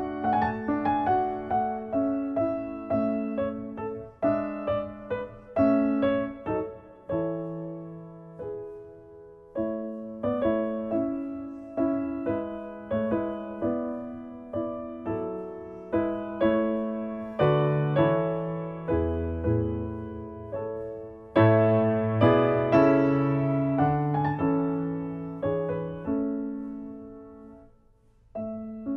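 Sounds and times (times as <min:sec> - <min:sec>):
calm piano music: 0:00.0 - 0:28.9.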